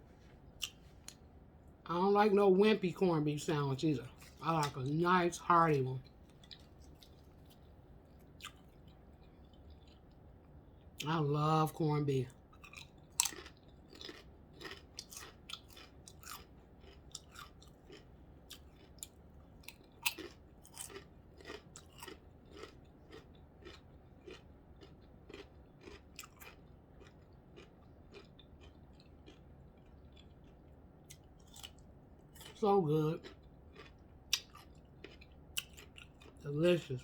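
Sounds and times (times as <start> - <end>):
chewing sandwich: 0.2 - 1.3, 6.0 - 11.0, 12.3 - 32.6, 33.2 - 36.4.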